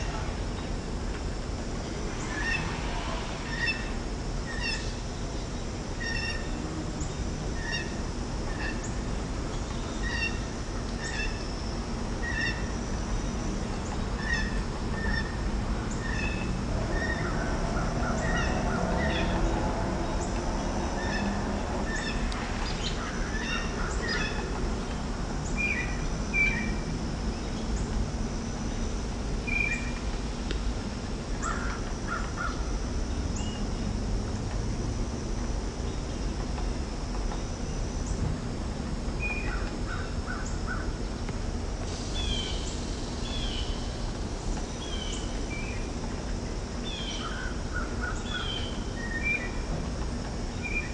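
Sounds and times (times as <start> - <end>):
birds calling and trilling: 1.8 - 28.0, 28.6 - 30.1, 31.2 - 34.0, 39.1 - 41.2, 42.1 - 50.9.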